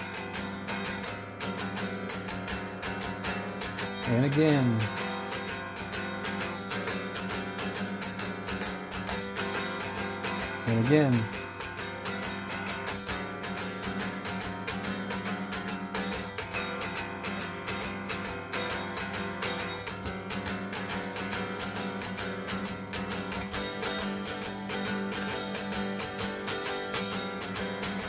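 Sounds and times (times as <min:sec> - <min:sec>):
guitar strummed: 0:00.0 - 0:28.0.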